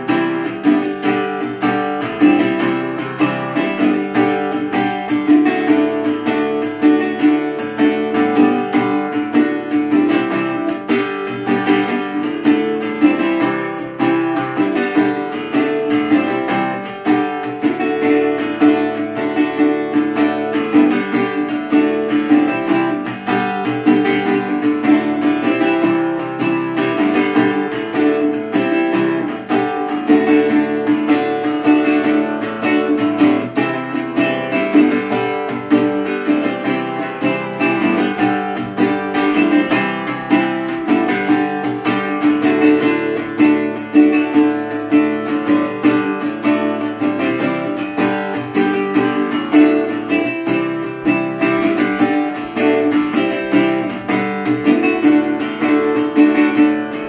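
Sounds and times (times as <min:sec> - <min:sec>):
resonator guitar picking and strumming: 0:00.0 - 0:57.0.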